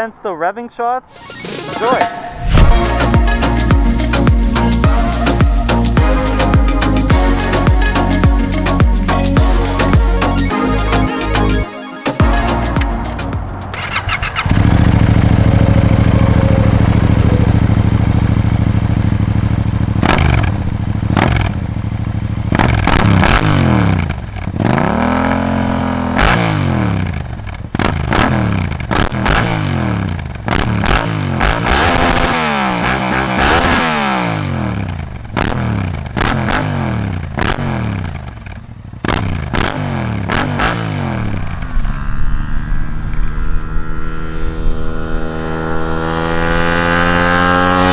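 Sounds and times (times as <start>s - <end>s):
motorcycle engine revving: 1.1s - 10.5s, 12.2s - 47.9s.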